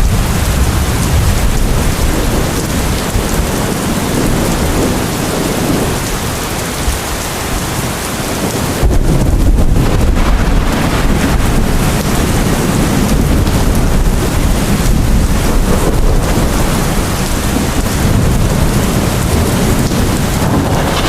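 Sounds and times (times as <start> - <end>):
deep continuous rumble: 0.0 - 7.2, 8.3 - 21.0
heavy rain pouring: 0.0 - 21.0.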